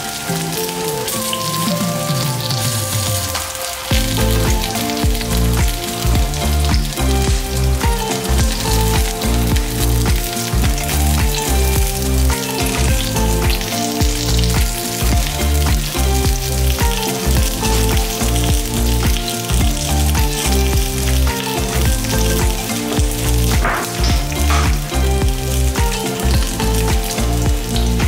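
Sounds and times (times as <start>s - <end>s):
background music with bass line: 0.0s - 28.0s
tofu sizzling in oil: 0.0s - 28.0s.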